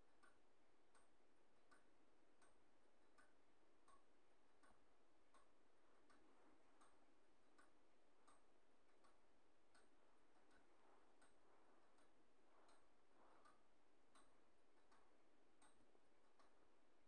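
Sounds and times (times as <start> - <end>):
faint regular ticking: 0.0 - 17.0.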